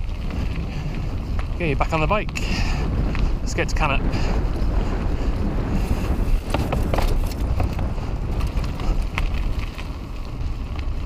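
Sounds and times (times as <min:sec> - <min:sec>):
bike clicks and rattles: 0:00.0 - 0:11.0
low rumble of tyres: 0:00.0 - 0:11.0
wind buffeting microphone: 0:00.0 - 0:11.0.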